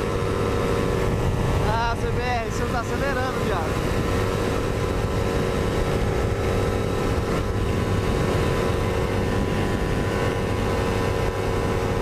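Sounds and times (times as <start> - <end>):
motorcycle engine at high revs: 0.0 - 12.0
wind noise: 0.0 - 12.0.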